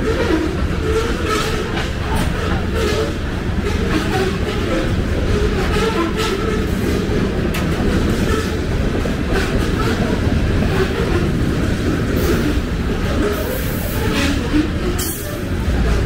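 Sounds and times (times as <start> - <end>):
steel wheels rumbling on rail: 0.0 - 16.0
wheels clicking over rail joints: 0.0 - 16.0.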